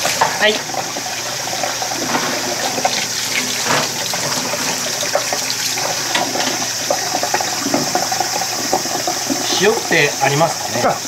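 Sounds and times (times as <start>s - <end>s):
tap water running into a sink: 0.0s - 11.0s.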